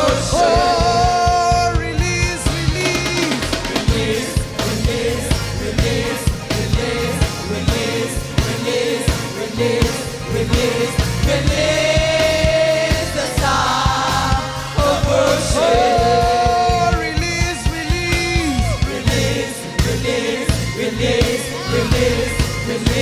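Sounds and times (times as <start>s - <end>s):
band with drums: 0.0s - 23.0s
voices singing: 0.0s - 23.0s.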